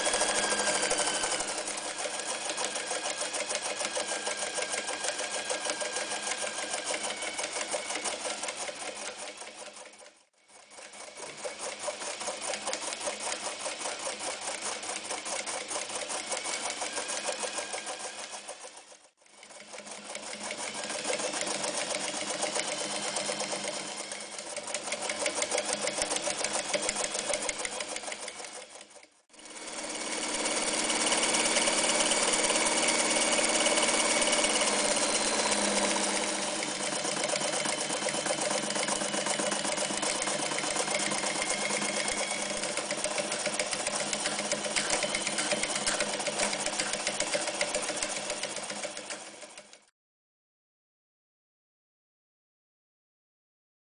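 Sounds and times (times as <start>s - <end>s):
sewing machine stitching: 0.0s - 49.9s.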